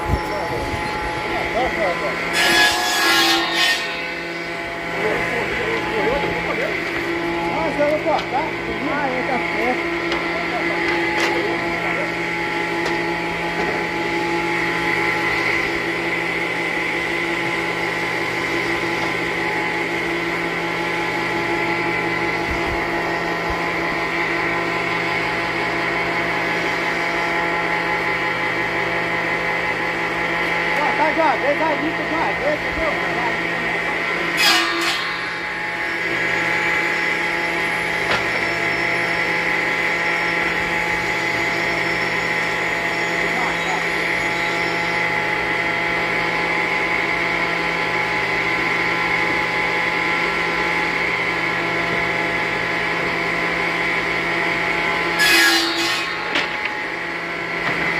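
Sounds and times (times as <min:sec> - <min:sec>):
circular saw running: 0:00.0 - 0:57.9.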